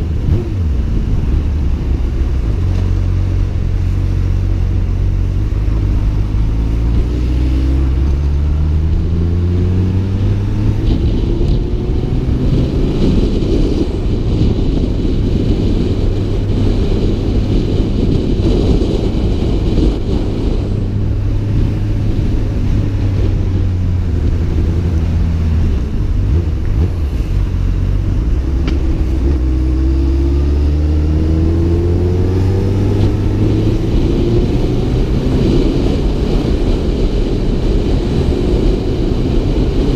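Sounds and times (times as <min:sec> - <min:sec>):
motorcycle engine accelerating: 0:00.0 - 0:39.9
wind rumble on camera: 0:00.0 - 0:39.9.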